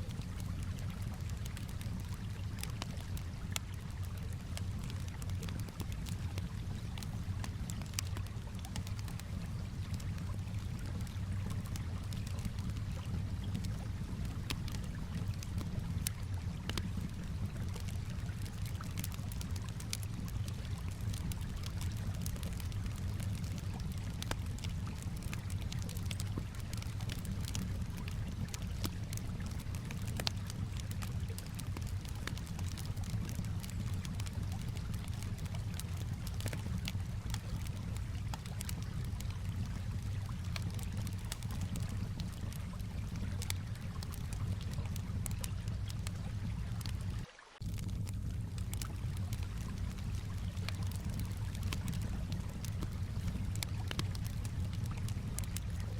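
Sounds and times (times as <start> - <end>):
campfire crackling and popping: 0.0 - 55.9
low steady rumble: 0.0 - 55.9.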